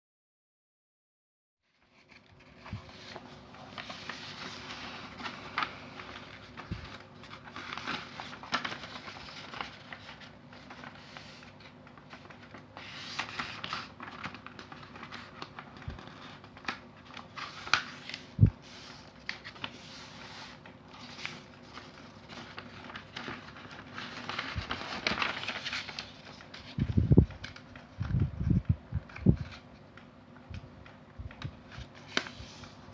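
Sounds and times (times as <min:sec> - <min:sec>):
paper rustling and crinkling: 0:01.7 - 0:32.9.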